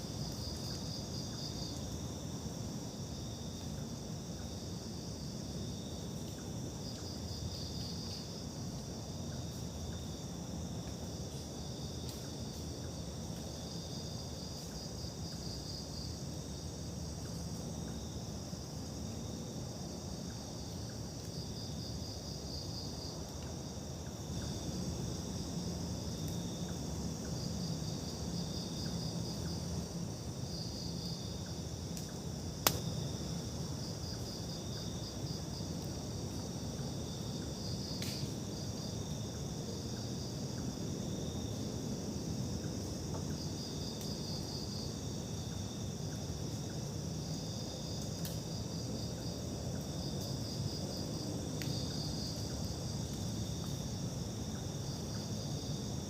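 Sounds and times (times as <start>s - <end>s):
crickets and insects chirping: 0.0s - 56.0s.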